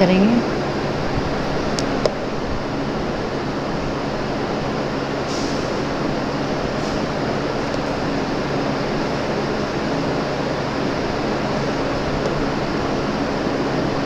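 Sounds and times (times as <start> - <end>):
room fan running: 0.0 - 14.0.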